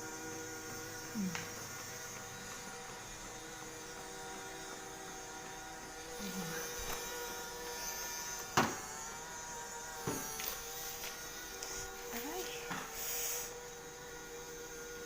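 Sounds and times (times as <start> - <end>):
robot floor cleaner motor hum: 0.0 - 15.0.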